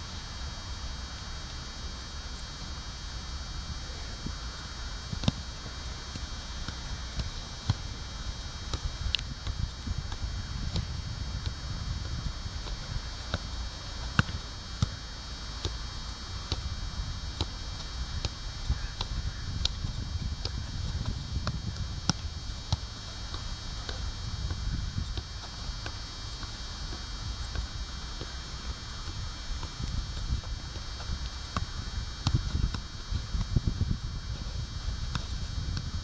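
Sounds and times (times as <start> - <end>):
steady low rumble: 0.0 - 36.0
foot kicking soccer ball: 4.0 - 36.0.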